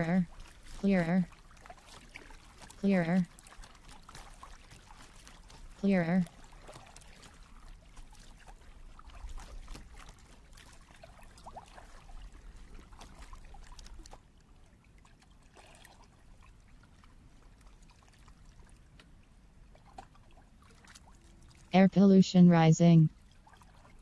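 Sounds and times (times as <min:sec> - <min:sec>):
small waves lapping against a kayak: 0:00.0 - 0:21.8, 0:23.1 - 0:24.0.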